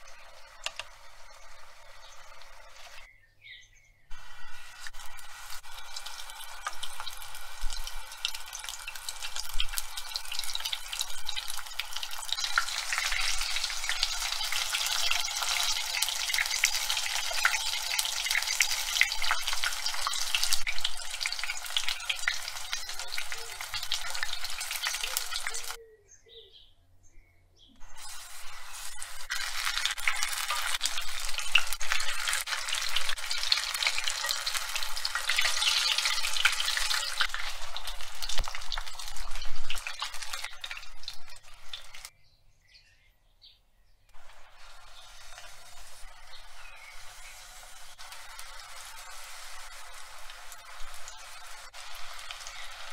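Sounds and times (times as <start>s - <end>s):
food deep-frying in hot oil: 0.0s - 3.1s, 4.1s - 25.8s, 27.8s - 42.1s, 44.1s - 52.9s.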